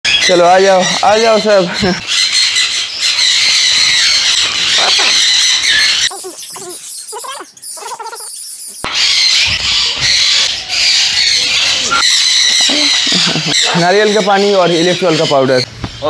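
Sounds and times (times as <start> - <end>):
parrots screeching: 0.1 - 15.7
short warbling bird calls: 1.8 - 15.7.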